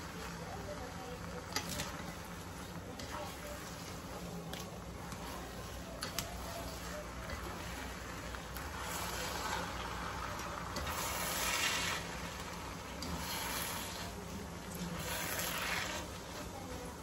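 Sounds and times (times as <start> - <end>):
noodles sizzling in a pan: 0.0 - 17.0
spatula scraping a pan: 0.0 - 17.0.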